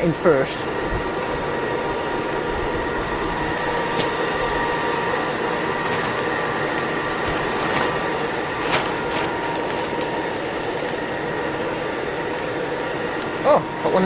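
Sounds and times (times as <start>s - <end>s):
furnace rushing with whine: 0.0s - 14.0s.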